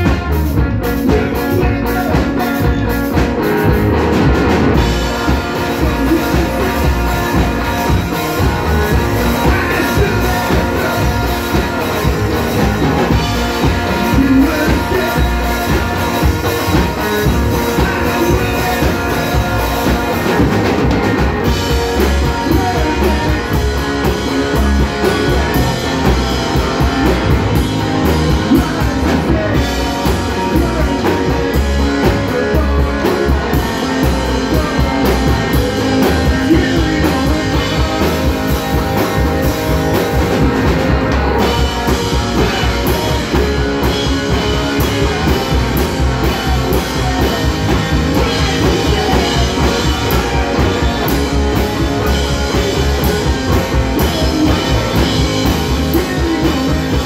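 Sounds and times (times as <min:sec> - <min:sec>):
drum kit beat: 0:00.0 - 0:57.0
electric guitar: 0:00.0 - 0:57.0
upright double bass: 0:00.0 - 0:57.0.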